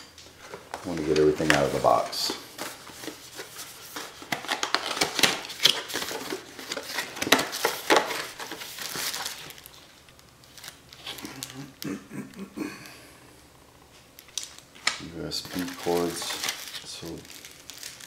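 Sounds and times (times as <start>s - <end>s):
packaging rustling: 0.2s - 11.8s, 13.9s - 18.0s.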